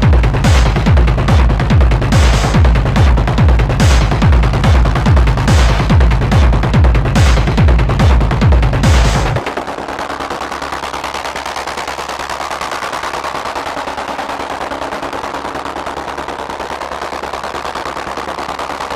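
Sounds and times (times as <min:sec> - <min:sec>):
rapid pulsing noise rattle: 0:00.0 - 0:18.9
techno kick drum and bass: 0:00.0 - 0:18.9.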